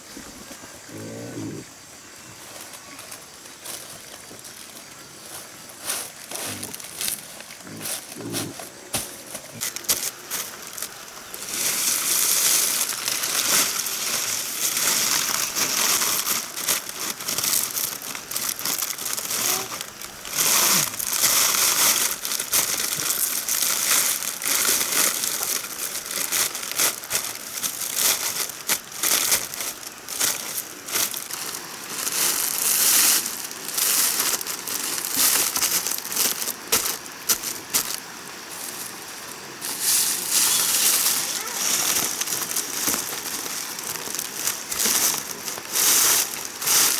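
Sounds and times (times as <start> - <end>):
dry rustling and crinkling: 2.4 - 46.9.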